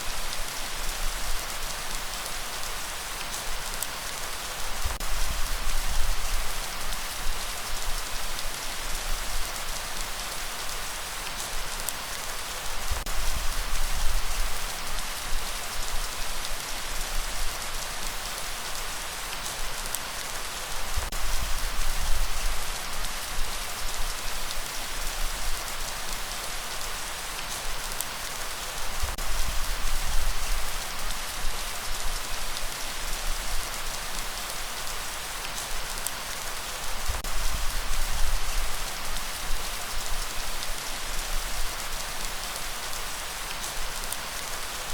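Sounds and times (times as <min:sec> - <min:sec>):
steady rainfall: 0:00.0 - 0:44.9.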